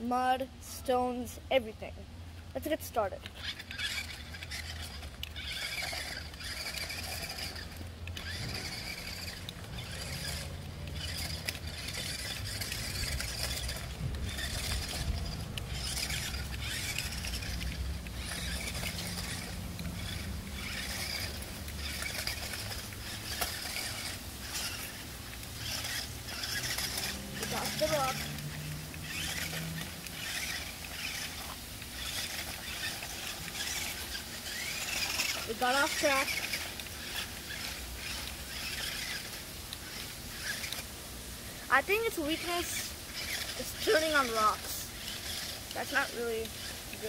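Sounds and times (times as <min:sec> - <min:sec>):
toy car motor whining: 0:00.0 - 0:01.9, 0:02.5 - 0:47.0.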